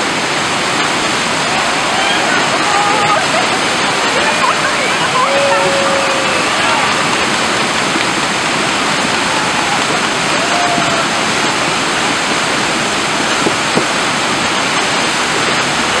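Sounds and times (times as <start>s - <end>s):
whitewater rushing: 0.0s - 16.0s.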